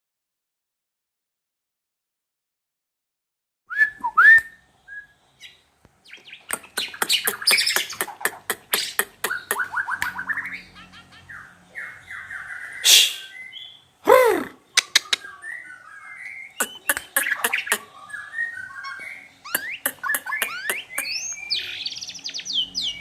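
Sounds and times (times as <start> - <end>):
bird singing varied song: 3.7 - 14.0, 14.6 - 23.0.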